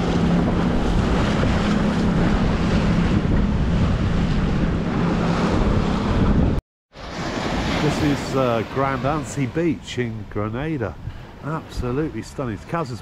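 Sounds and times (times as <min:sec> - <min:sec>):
wind noise on microphone: 0:00.0 - 0:12.3
boat motor humming: 0:00.0 - 0:12.8
water rushing past hull: 0:00.0 - 0:13.0.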